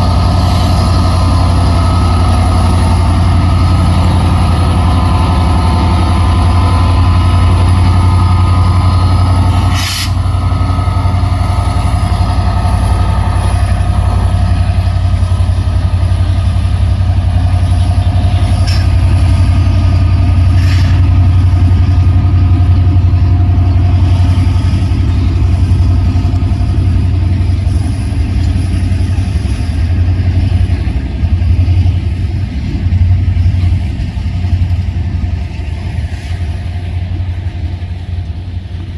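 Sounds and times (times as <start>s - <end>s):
diesel locomotive droning: 0.0s - 38.9s.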